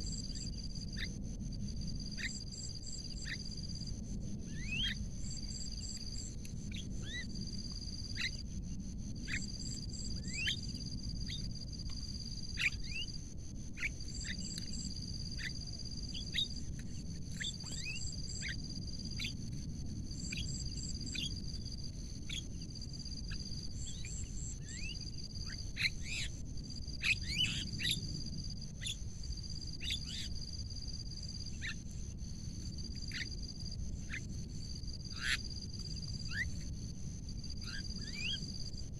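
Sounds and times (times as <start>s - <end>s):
low background rumble: 0.0s - 38.9s.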